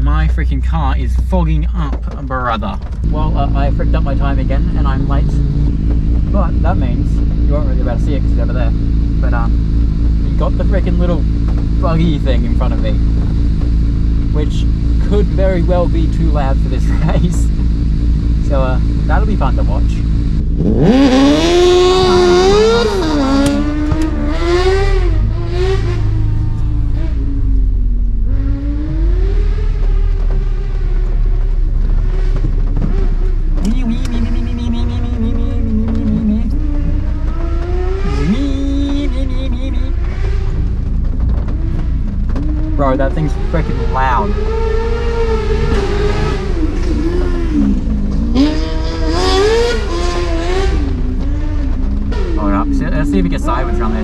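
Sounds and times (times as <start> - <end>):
buggy engine accelerating: 0.0 - 54.0
low rumble: 0.0 - 54.0.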